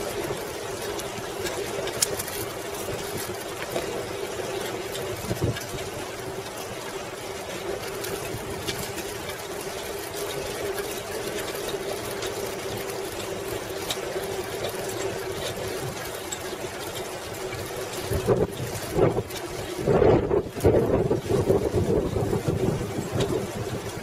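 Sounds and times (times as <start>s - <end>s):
bicycle rolling on pavement: 0.0s - 24.0s
faint ticks: 0.0s - 24.0s.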